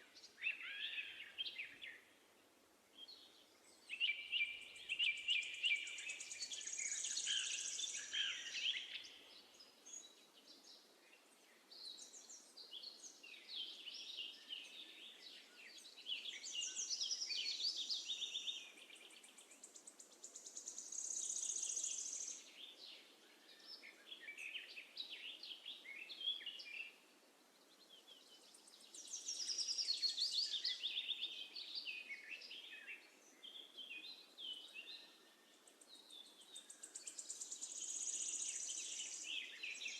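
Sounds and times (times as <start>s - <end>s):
faint steady background hiss: 0.0s - 39.9s
sparrows chirping: 3.0s - 27.0s, 27.6s - 39.9s.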